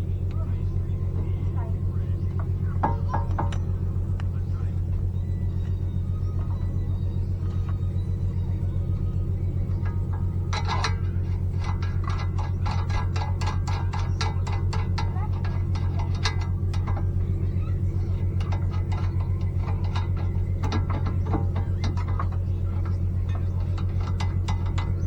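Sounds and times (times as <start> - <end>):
low pulsing mechanical hum: 0.0 - 25.0.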